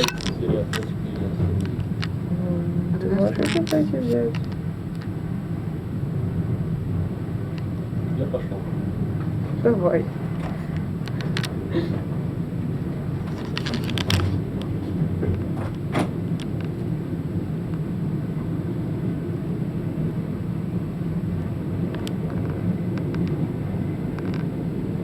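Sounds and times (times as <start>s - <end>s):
train clacks and rattles: 0.0s - 25.0s
train wheels rumbling on rails: 0.0s - 25.0s.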